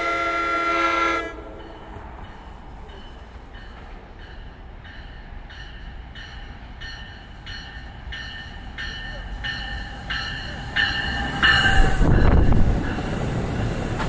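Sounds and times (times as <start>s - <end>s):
train rumbling: 0.0s - 14.0s
train bell ringing: 1.6s - 14.0s.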